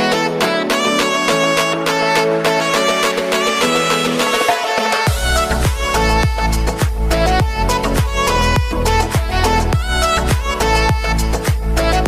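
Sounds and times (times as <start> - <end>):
dance music with string melody: 0.0 - 12.0.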